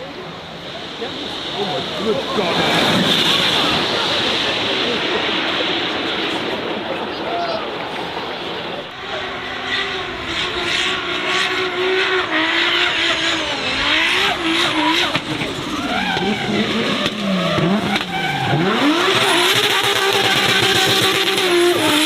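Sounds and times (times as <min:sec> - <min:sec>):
race car engine revving: 0:00.0 - 0:07.2, 0:07.8 - 0:22.0.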